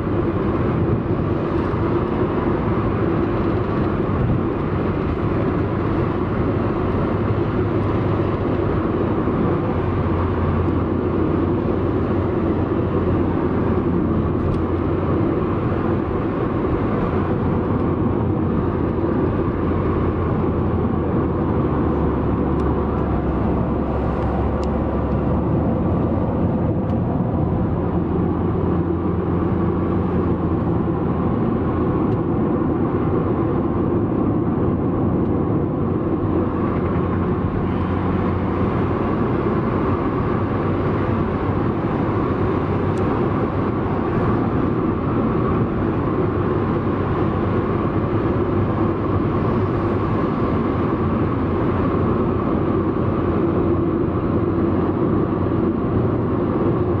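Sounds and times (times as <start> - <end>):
vehicle engine and tyre noise: 0.0 - 57.0.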